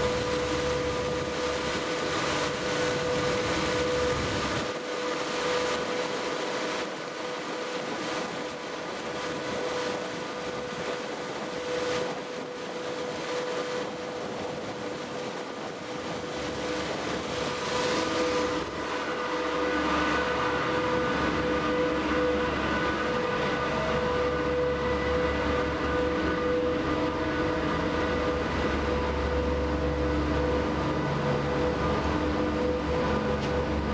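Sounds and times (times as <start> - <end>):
ferry engine drone: 0.0 - 33.9
wake rushing along hull: 0.0 - 33.9.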